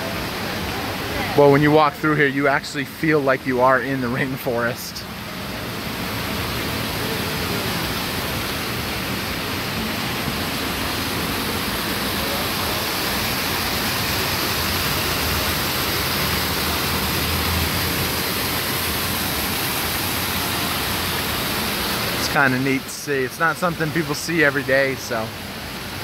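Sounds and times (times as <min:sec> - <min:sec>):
waterfall splashing into pool: 0:00.0 - 0:26.0.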